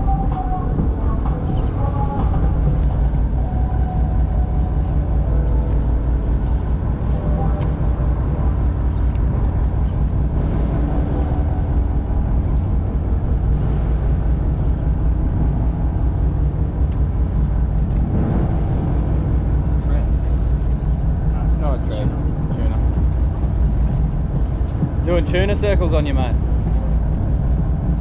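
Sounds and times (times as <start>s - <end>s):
boat engine rumbling: 0.0s - 28.0s
water noise: 0.0s - 28.0s
wind: 0.0s - 28.0s.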